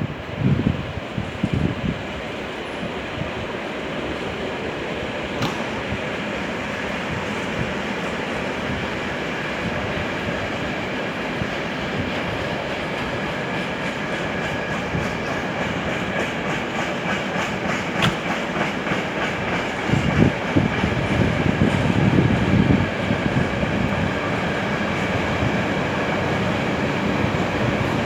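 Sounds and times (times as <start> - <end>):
low train rumble: 0.0 - 28.0
train wheels clicking on rails: 0.1 - 28.0.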